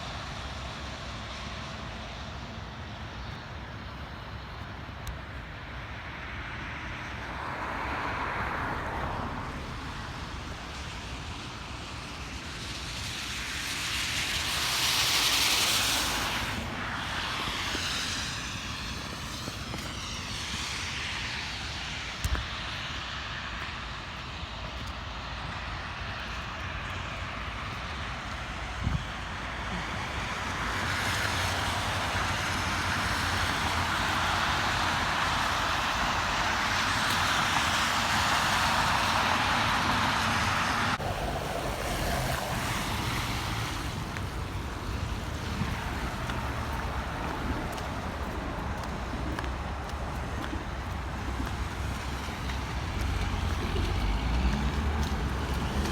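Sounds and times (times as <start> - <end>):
road noise: 0.0 - 55.9
wind: 0.0 - 55.9.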